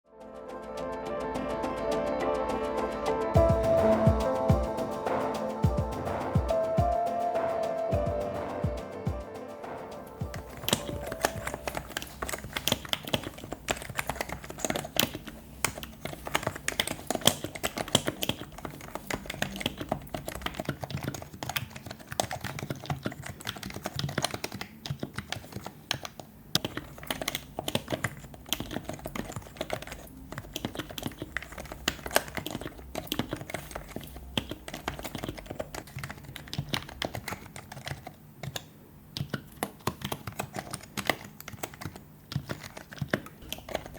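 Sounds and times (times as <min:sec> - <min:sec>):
keyboard typing: 0:00.4 - 0:43.9.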